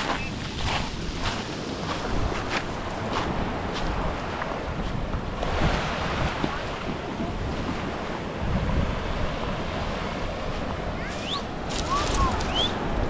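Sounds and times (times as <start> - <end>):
waves washing onto rocky beach: 0.0 - 13.0
wind buffeting microphone: 0.0 - 13.0.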